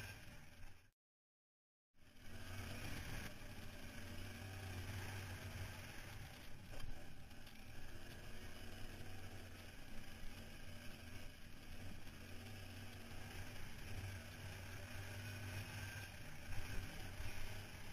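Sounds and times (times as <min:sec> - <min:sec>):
atv engine running: 0:00.0 - 0:00.9, 0:02.0 - 0:17.9.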